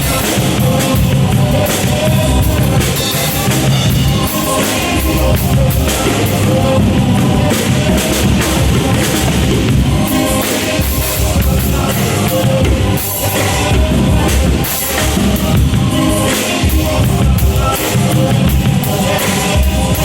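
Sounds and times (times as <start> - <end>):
drum kit rock groove: 0.0 - 20.0
music with pitched instruments: 0.0 - 20.0.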